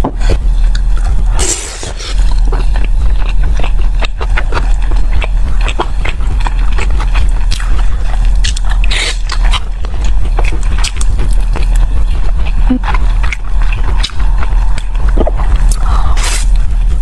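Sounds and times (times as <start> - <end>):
steady low hum: 0.0 - 17.0
chewing sticky rice: 0.2 - 17.0.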